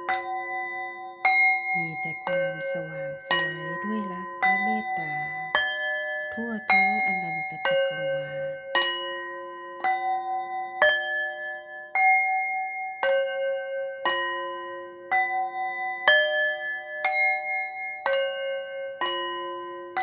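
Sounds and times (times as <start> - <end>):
meditation music with bell notes: 0.0 - 20.0.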